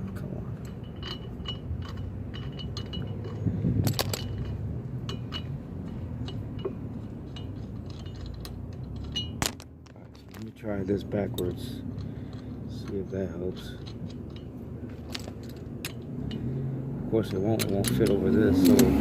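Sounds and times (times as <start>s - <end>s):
metal clinks and clicks: 0.0s - 16.6s, 17.2s - 19.0s
steady low rumble: 0.0s - 17.4s
metal tools clattering: 0.6s - 16.5s, 17.2s - 18.8s.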